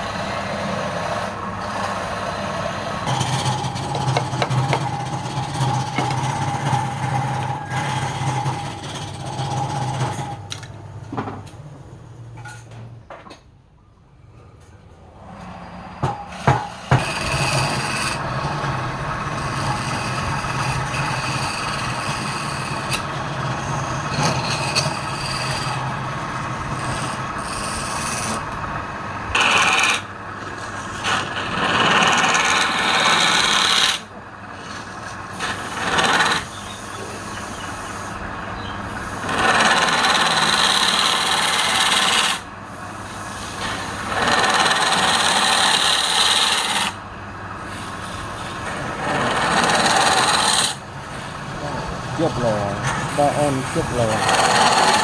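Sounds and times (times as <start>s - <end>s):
tool scraping wood on lathe: 0.0s - 10.7s, 16.3s - 47.0s, 47.6s - 55.0s
lathe running hum: 0.0s - 11.9s, 15.0s - 55.0s.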